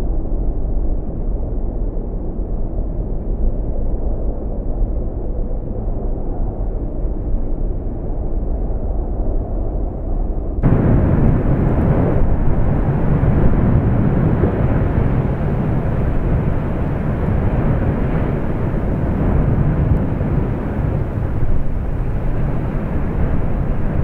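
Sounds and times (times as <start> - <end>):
volcanic vent rumbling: 0.0 - 24.0.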